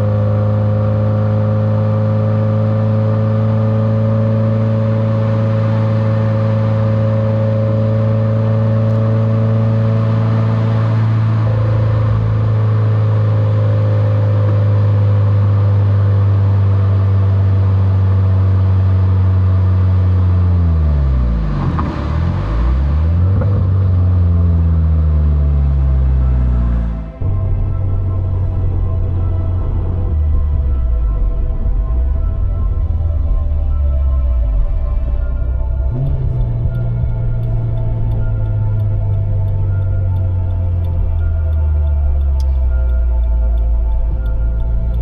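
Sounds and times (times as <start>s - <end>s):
car engine cruising: 0.0s - 45.0s.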